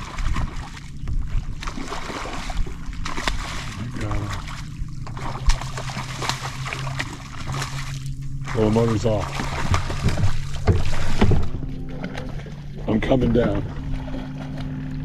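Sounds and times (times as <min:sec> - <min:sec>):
fish thrashing in water: 0:00.0 - 0:15.0
steady low hum: 0:00.0 - 0:15.0.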